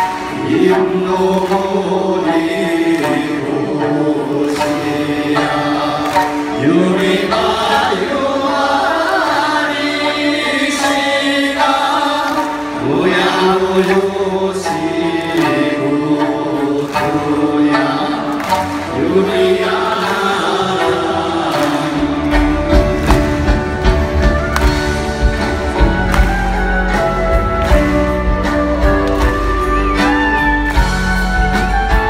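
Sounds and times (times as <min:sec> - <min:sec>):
group singing in unison: 0:00.0 - 0:26.2.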